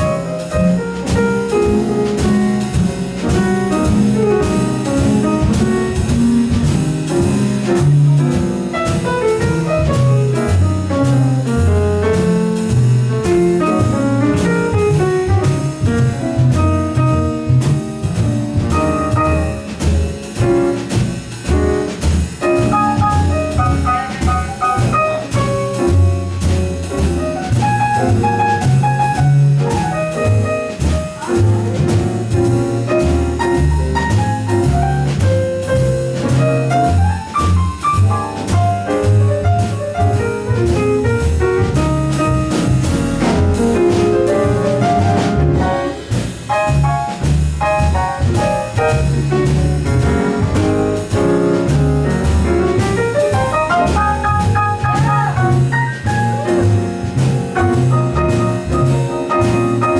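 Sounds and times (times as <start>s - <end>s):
drum kit cymbals: 0.0s - 59.9s
piano: 0.0s - 59.9s
walking double bass: 0.0s - 59.9s.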